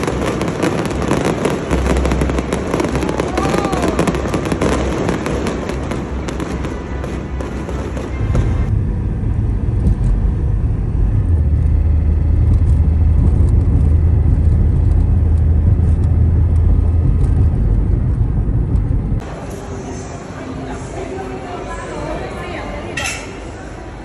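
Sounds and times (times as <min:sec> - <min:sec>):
car engine and road noise: 0:00.0 - 0:03.4, 0:04.0 - 0:20.3
fireworks crackling and bursting: 0:00.0 - 0:19.2.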